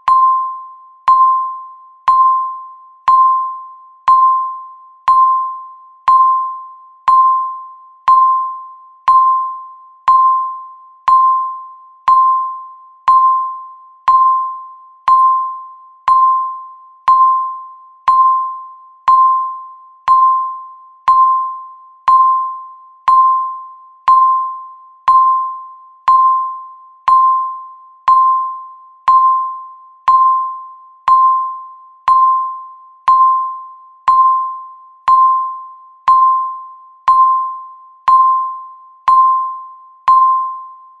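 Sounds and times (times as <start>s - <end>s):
countdown timer beeps: 0.0s - 41.0s.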